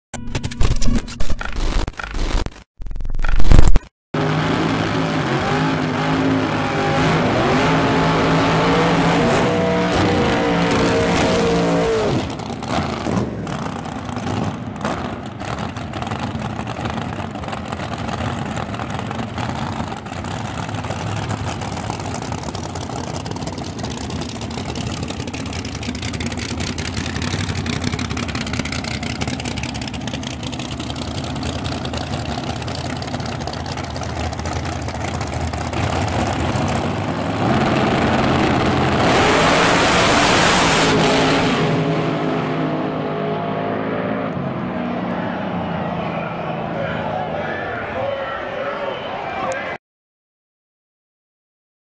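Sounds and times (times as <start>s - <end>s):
drag race cars accelerating: 4.2s - 49.7s.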